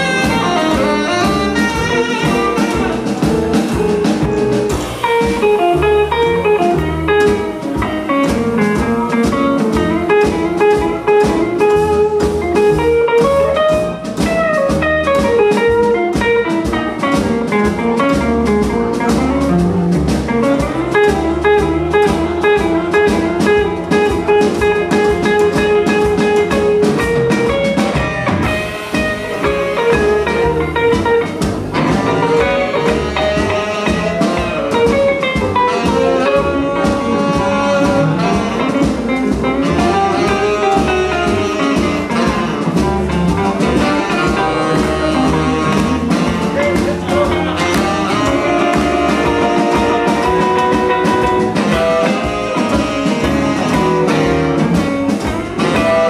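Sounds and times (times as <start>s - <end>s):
electric guitar lead: 0.0s - 56.0s
live blues band playing: 0.0s - 56.0s.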